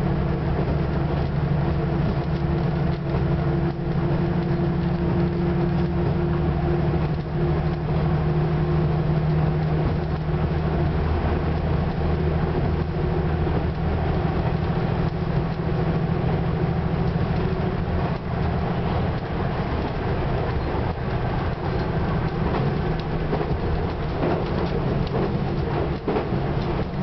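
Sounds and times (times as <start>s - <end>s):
train engine drone: 0.0s - 27.0s
wheels running on track: 0.0s - 27.0s.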